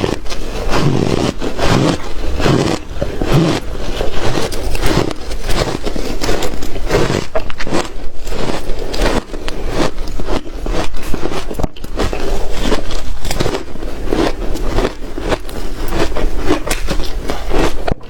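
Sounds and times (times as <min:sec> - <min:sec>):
person crunching shaved ice: 0:00.0 - 0:18.0.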